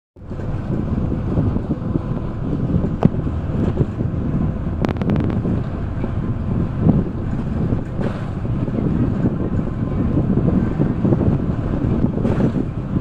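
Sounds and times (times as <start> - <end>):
vehicle rumble: 0.2 - 13.0
wind buffeting microphone: 0.2 - 13.0.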